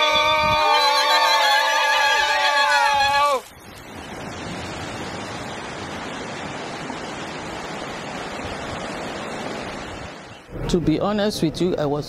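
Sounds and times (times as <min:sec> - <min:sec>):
sea water rushing: 0:00.0 - 0:11.2.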